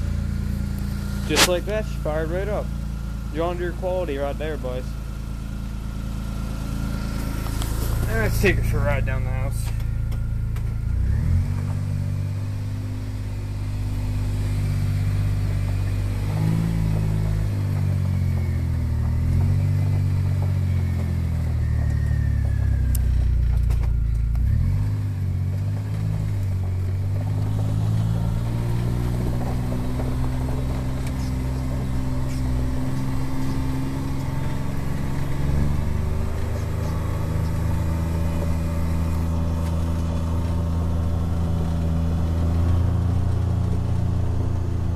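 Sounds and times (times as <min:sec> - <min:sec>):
utility vehicle engine running: 0:00.0 - 0:44.9.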